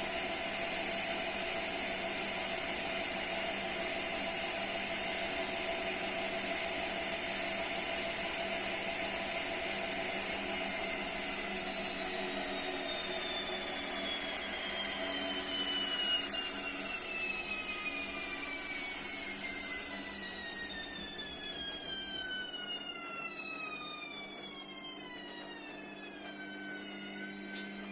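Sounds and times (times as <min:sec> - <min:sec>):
washing machine motor whining: 0:00.0 - 0:27.9.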